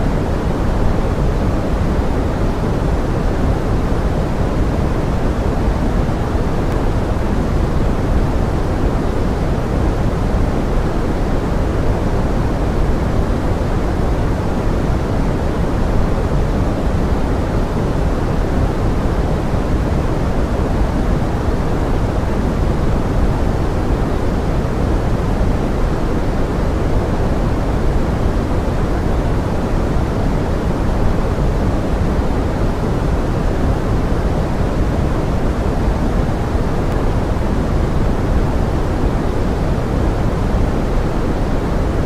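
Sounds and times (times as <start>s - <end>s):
pink noise: 0.0s - 42.0s.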